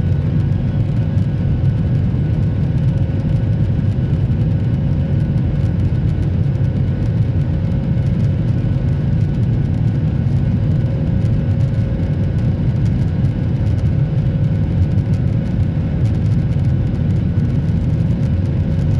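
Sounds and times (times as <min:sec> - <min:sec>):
airliner engine rumble: 0:00.0 - 0:18.9
faint steady whine: 0:00.0 - 0:18.9.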